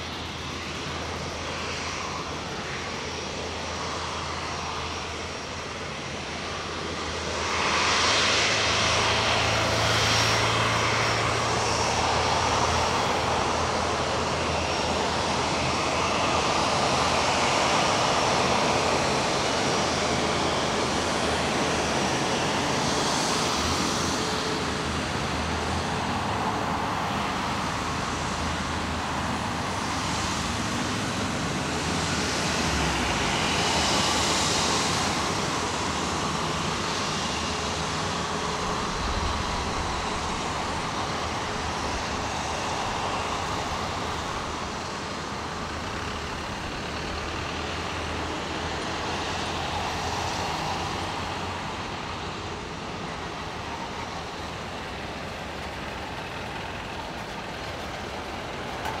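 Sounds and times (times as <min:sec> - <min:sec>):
jet engines humming: 0:00.0 - 0:59.0.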